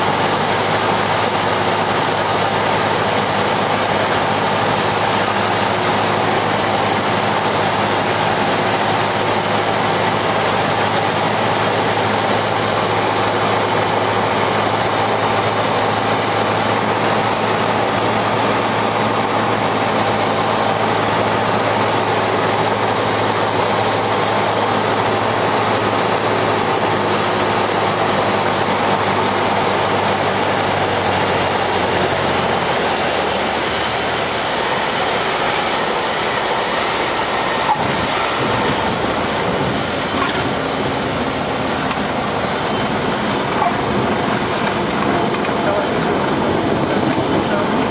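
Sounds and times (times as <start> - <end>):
airflow noise: 0.0 - 47.9
propeller engine droning: 0.0 - 47.9.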